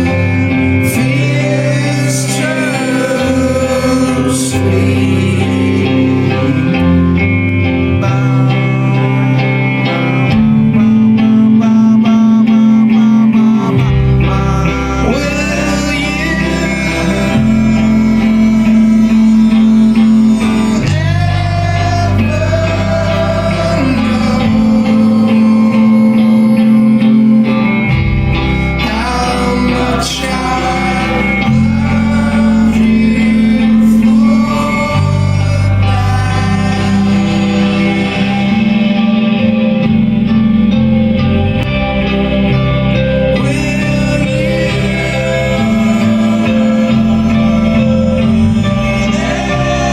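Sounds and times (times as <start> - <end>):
bass line: 0.0 - 49.9
guitars: 0.0 - 49.9
person singing: 0.0 - 49.9.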